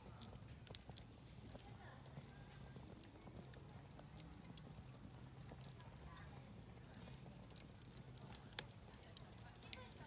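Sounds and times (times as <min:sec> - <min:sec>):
faint campfire crackling: 0:00.0 - 0:10.0.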